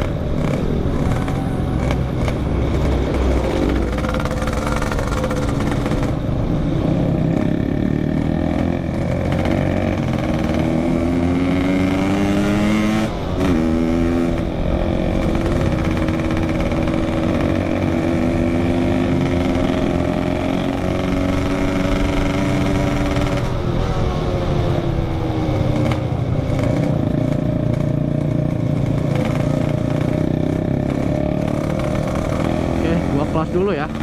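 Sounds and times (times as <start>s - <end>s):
two-stroke motorcycle engine revving: 0.0s - 34.0s.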